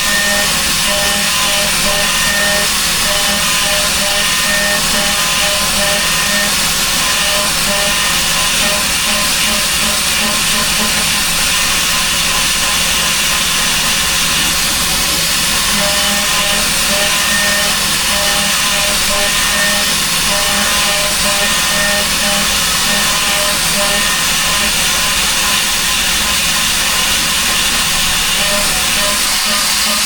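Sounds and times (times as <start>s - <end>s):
router milling metal hissing: 0.0s - 30.0s.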